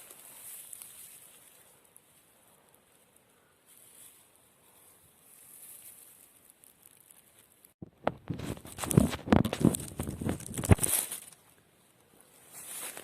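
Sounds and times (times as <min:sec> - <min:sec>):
dry leaves and twigs crunching: 0:00.0 - 0:11.6, 0:12.2 - 0:13.0.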